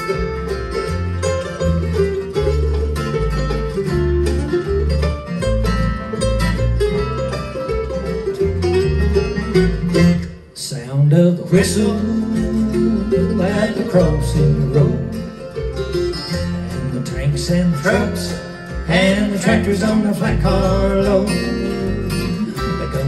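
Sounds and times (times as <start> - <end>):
acoustic guitars: 0.0 - 23.0
banjo picking: 0.0 - 23.0
mandolin picking: 0.0 - 23.0
plucked upright bass: 0.0 - 23.0.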